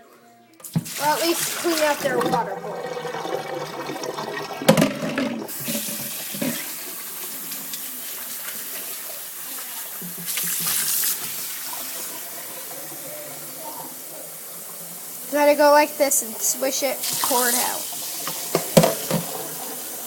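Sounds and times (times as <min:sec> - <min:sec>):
tap water running into a bowl: 0:00.6 - 0:20.0.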